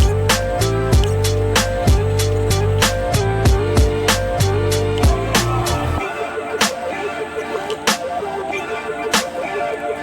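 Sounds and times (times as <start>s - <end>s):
repeating stepped melody: 0.0s - 10.0s.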